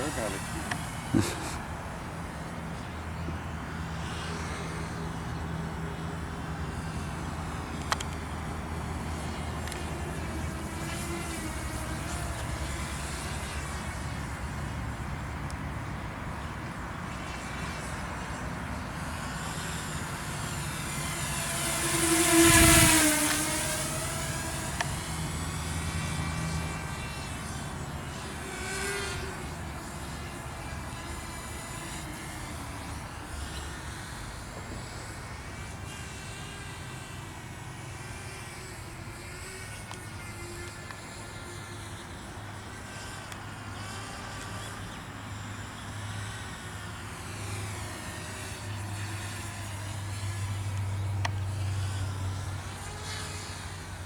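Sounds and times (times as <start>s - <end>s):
quadcopter propellers buzzing: 0.0s - 54.0s.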